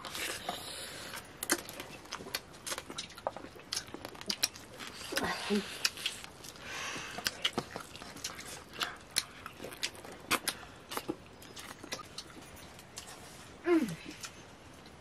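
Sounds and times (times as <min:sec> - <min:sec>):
chewing smacks: 0:00.0 - 0:13.2.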